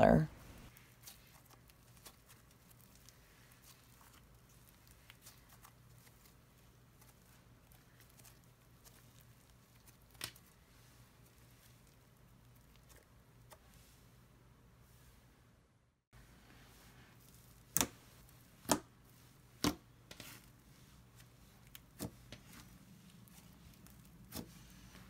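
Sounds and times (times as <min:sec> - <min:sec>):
slime crackling while stretched: 0:00.7 - 0:13.7, 0:17.2 - 0:25.0.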